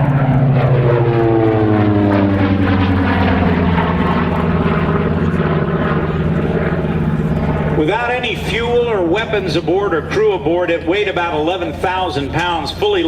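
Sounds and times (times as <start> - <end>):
propeller plane flyby: 0.0 - 13.0.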